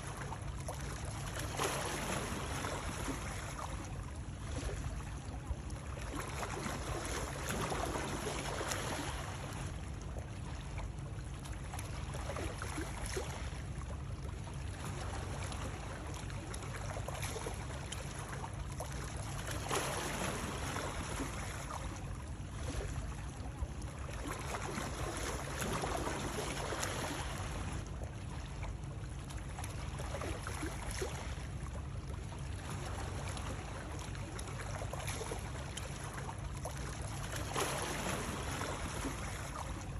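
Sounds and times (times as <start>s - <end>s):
small water splashes: 0.0s - 39.9s
water running and lapping: 0.0s - 39.9s.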